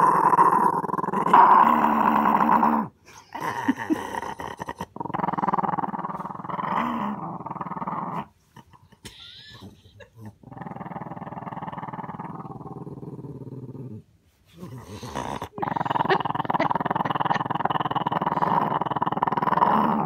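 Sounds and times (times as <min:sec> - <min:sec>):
small dog growling: 0:00.0 - 0:08.8, 0:10.2 - 0:14.0, 0:14.6 - 0:20.0.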